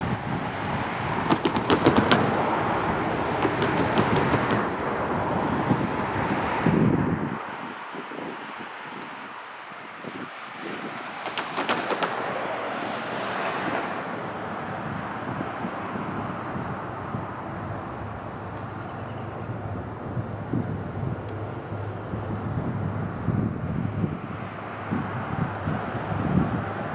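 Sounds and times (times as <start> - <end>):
freight train wheels rumbling: 0.0 - 8.6, 9.6 - 26.9
wind buffeting microphone: 0.0 - 26.9.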